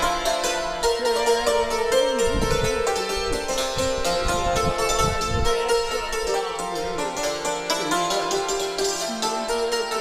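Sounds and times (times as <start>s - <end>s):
fast tremolo strikes: 0.0s - 10.0s
hammered dulcimer strings ringing: 0.0s - 10.0s.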